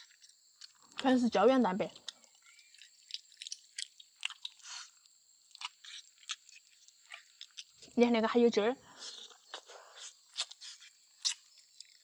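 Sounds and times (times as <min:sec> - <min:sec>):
person chewing crunchily: 0:00.0 - 0:01.1, 0:01.9 - 0:08.0, 0:09.0 - 0:12.0.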